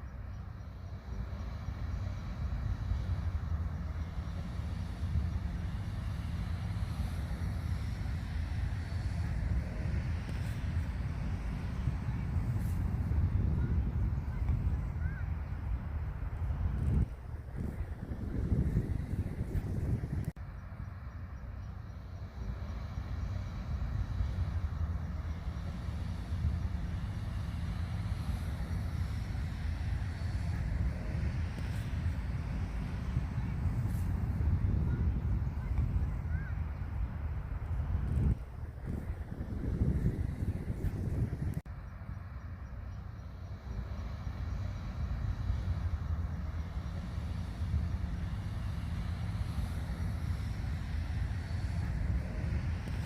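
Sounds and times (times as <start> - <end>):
faint hiss: 0.0 - 53.0
steady low rumble: 0.0 - 53.0.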